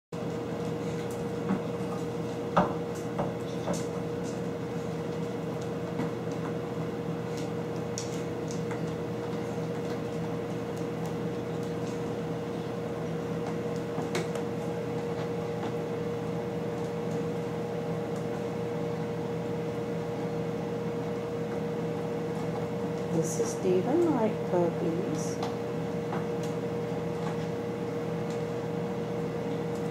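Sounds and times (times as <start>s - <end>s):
machine hum with pitched tone: 0.2s - 29.9s.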